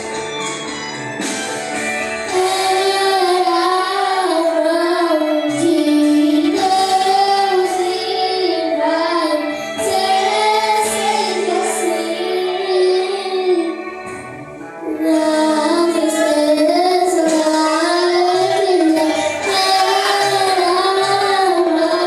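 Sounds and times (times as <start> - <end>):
sustained instrumental accompaniment: 0.0 - 22.0.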